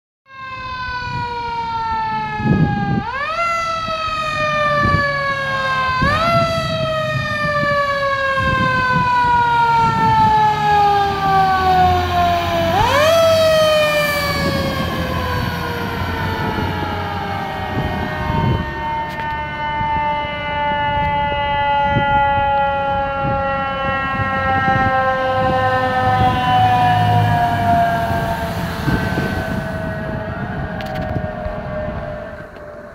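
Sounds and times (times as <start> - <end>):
fire truck siren wailing: 0.3 - 32.9
truck engines rumbling: 0.5 - 32.9.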